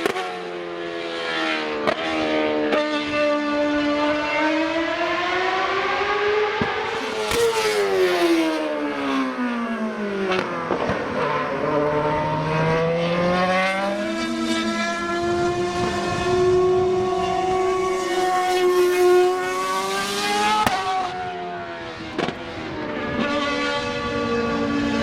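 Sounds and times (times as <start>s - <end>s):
racing car engine: 0.0s - 25.0s.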